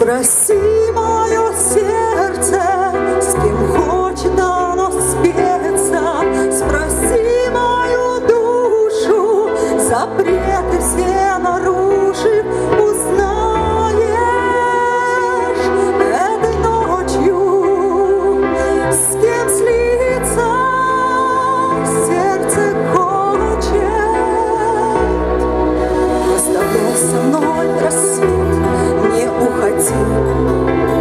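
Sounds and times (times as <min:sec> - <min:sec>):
woman singing into microphone: 0:00.0 - 0:31.0.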